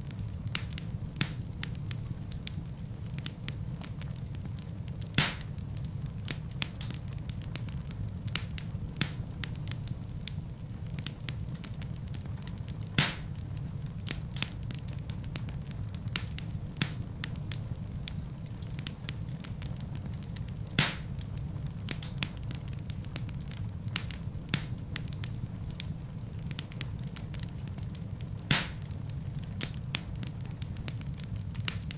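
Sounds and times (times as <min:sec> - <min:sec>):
fireplace fire crackling: 0:00.0 - 0:31.9
low rumble of flames: 0:00.0 - 0:31.9
sharp fire pops: 0:00.1 - 0:31.9.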